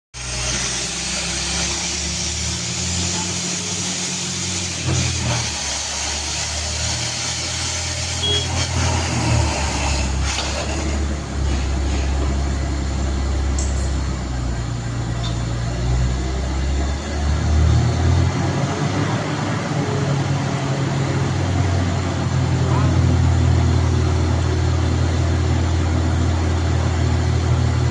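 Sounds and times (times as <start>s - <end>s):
drilling rig engine droning: 0.2s - 27.9s.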